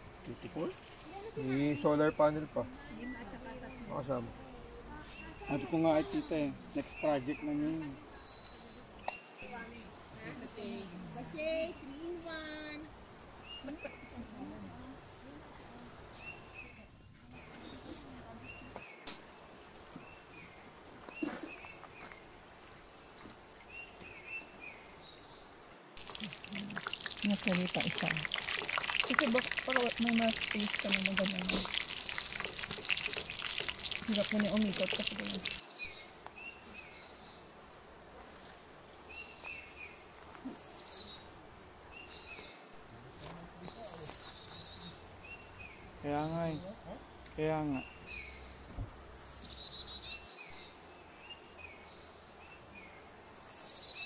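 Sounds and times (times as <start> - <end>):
faint outdoor hiss: 0.0 - 54.0
birds chirping: 0.3 - 38.0, 38.9 - 54.0.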